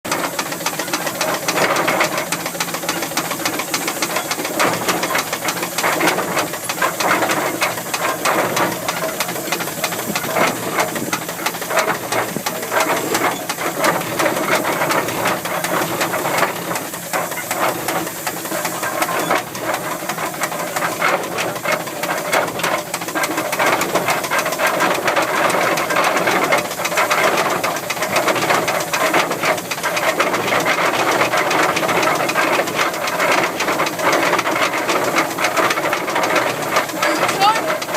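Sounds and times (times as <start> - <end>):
steam engine exhaust beat: 0.1 - 37.9
steam hissing: 0.1 - 37.9.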